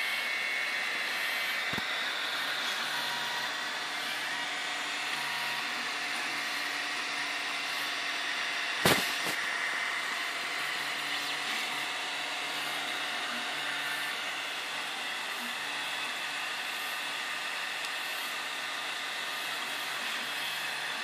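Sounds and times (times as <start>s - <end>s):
printer mechanical whir: 0.0s - 21.0s.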